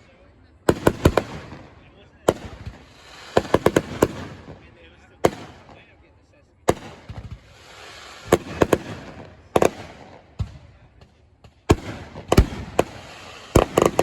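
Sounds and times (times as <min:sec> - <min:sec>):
fireworks bangs: 0:00.0 - 0:06.0, 0:06.6 - 0:14.0
fireworks crackling and hissing: 0:00.0 - 0:14.0.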